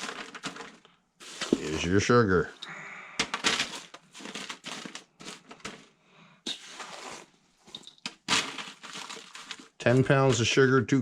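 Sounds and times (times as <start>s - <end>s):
sugar bag crinkling: 0.0s - 2.6s, 3.2s - 10.6s.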